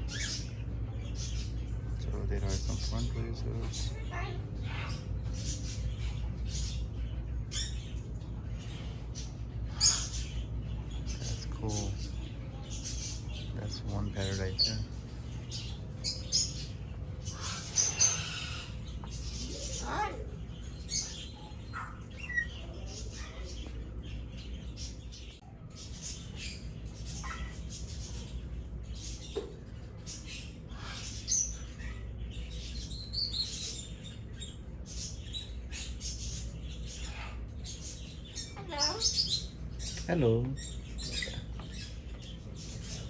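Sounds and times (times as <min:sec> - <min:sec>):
parrots chirping and calling: 0:00.0 - 0:43.0
steady low hum: 0:00.0 - 0:43.0.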